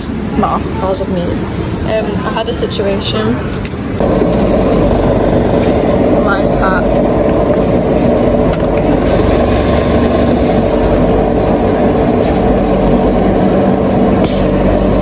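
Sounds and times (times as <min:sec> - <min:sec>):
loud mechanical hum: 0:00.0 - 0:15.0.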